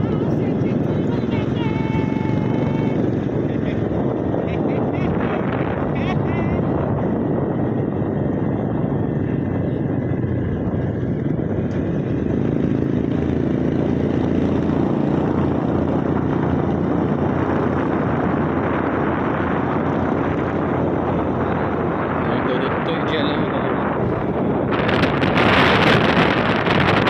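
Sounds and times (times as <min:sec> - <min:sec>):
motorcycle engine running: 0:00.0 - 0:27.0
rushing riding noise: 0:00.0 - 0:27.0.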